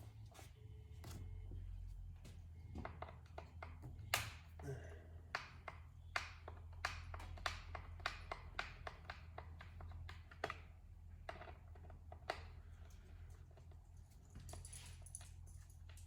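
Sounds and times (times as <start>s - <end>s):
low steady hum: 0.0s - 16.0s
hand tools clicking and tapping: 2.7s - 16.0s.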